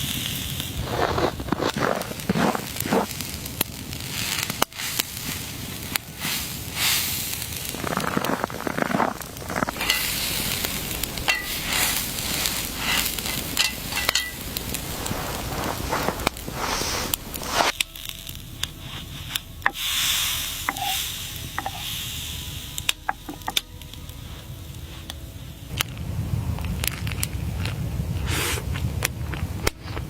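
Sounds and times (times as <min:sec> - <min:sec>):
rustling: 0:00.0 - 0:30.0
sizzling and crackling noise: 0:00.0 - 0:30.0.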